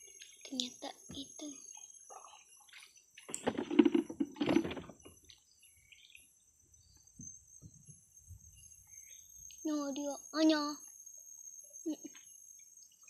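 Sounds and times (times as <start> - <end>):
faint chirps: 0.0 - 13.0
insects droning: 0.0 - 13.0.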